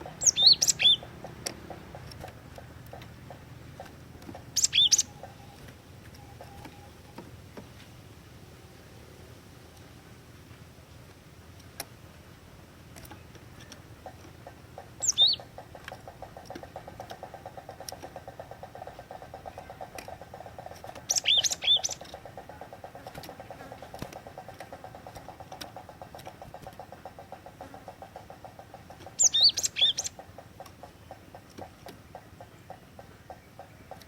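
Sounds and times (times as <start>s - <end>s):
faint fast ticking: 0.0s - 6.7s, 13.0s - 34.0s
tit bird calling: 0.0s - 7.2s, 13.6s - 34.0s.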